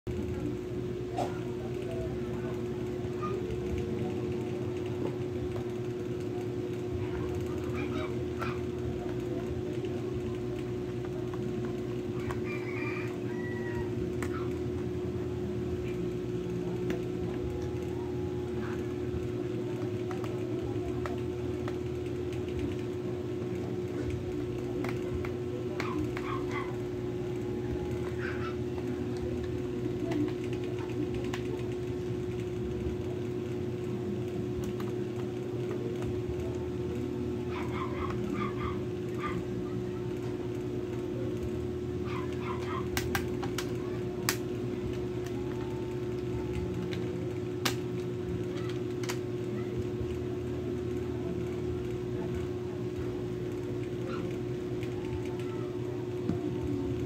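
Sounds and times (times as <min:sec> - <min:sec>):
steady background hum: 0:00.1 - 0:57.0.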